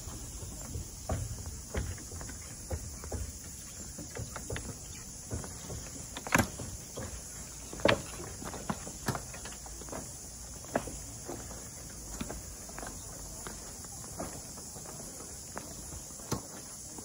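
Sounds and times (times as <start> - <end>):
footsteps on wooden deck: 0.0 - 17.0
steady hiss: 0.0 - 17.0.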